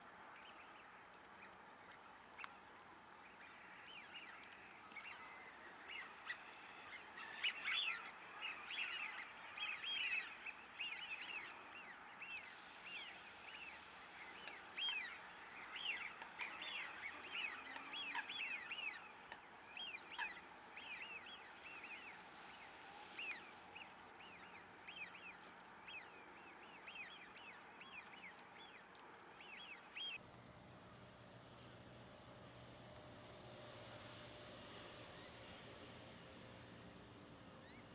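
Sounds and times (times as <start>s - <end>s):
faint steady hiss: 0.0s - 37.9s.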